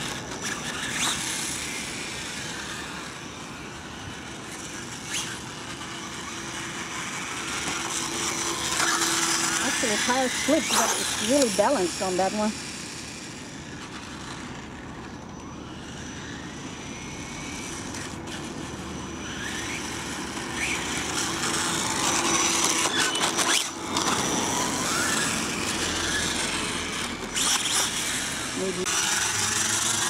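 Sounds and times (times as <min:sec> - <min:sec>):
electric motor whining: 0:00.0 - 0:30.0
outdoor noise: 0:00.0 - 0:30.0.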